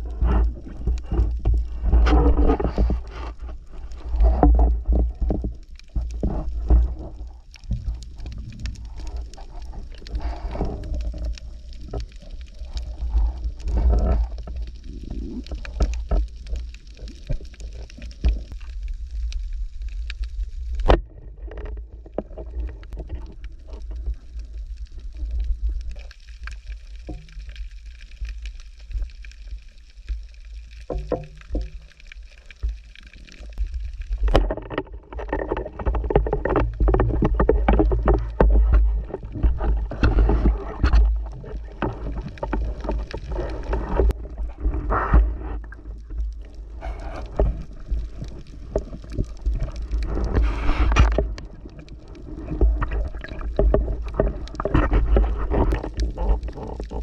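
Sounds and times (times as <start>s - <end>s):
clicks and knocks underwater: 0.0s - 57.0s
muffled underwater rumble: 0.0s - 57.0s.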